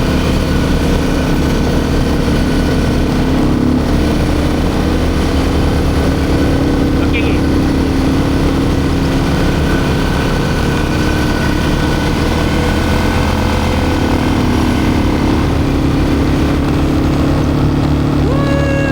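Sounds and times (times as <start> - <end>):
atv engine running: 0.0 - 18.9.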